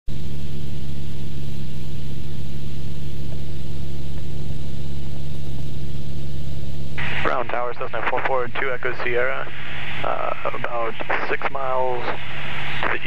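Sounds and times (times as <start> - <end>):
plane engine droning in cabin: 0.1 - 13.0.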